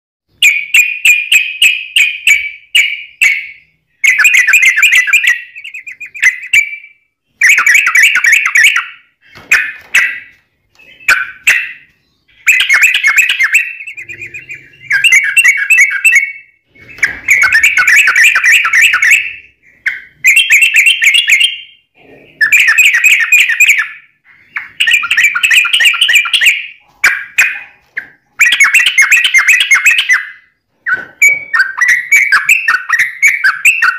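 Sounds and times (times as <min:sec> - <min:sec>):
bird singing rapid trills: 0:00.4 - 0:33.9.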